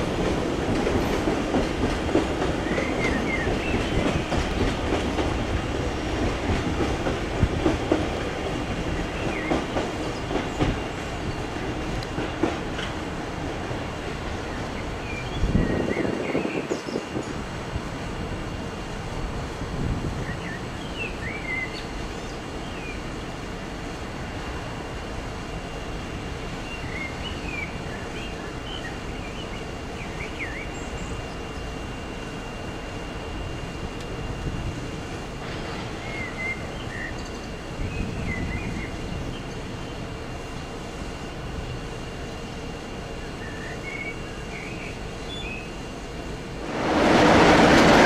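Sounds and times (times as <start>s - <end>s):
train rumbling over points: 0.0s - 48.0s.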